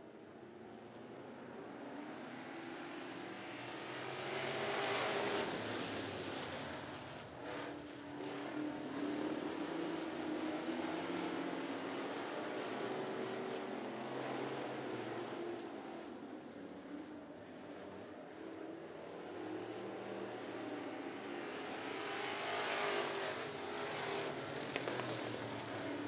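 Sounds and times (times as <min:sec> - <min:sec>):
race car engines at speed: 0:00.0 - 0:26.0.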